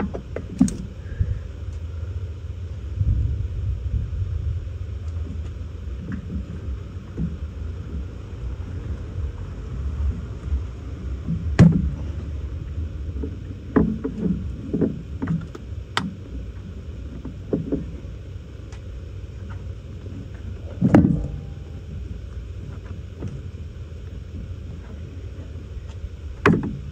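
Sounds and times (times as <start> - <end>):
steady low rumble: 0.0 - 26.9.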